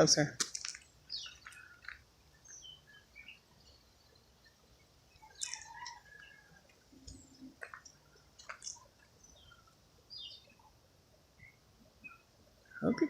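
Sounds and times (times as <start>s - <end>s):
faint birdsong chirps: 0.7s - 13.0s.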